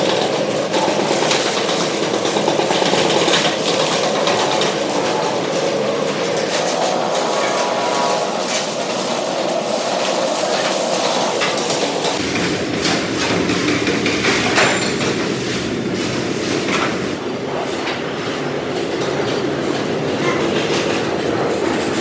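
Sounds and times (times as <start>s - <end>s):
factory machinery clatter: 0.0s - 22.0s.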